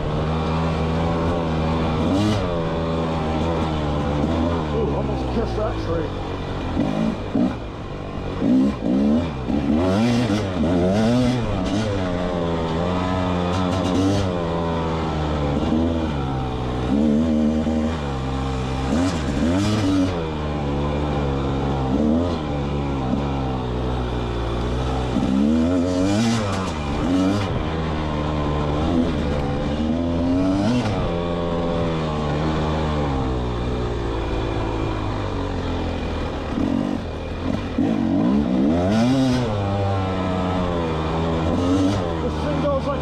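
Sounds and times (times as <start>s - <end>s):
two-stroke engine revving: 0.0s - 43.0s.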